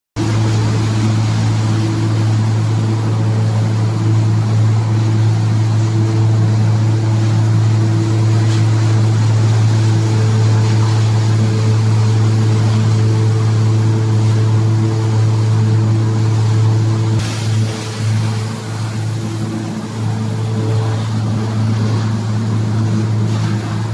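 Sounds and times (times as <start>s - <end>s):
hammer mill running: 0.2s - 23.9s.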